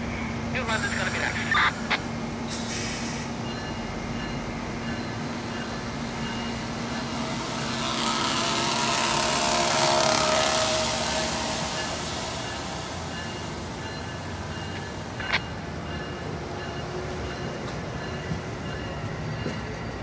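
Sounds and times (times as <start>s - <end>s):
train coaches rolling past: 0.0s - 20.0s
wheel and rail noise: 1.7s - 20.0s.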